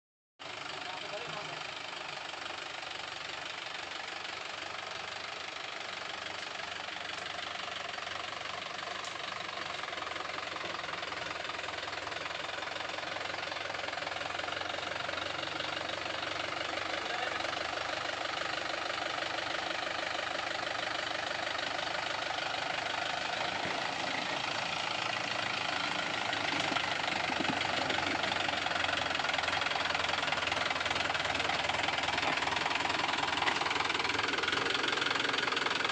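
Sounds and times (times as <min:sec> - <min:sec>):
tractor diesel engine running: 0:00.4 - 0:35.9.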